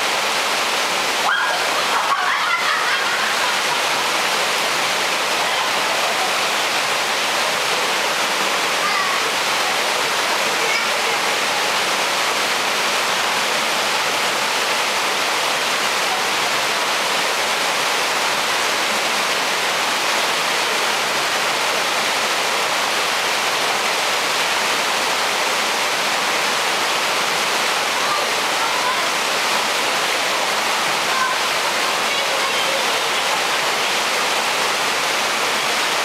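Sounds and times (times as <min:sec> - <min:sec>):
waterfall rushing into stream: 0:00.0 - 0:36.0.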